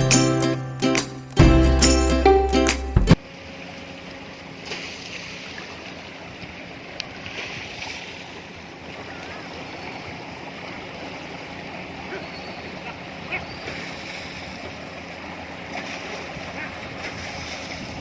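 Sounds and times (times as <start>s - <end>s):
low engine hum: 1.3s - 18.0s.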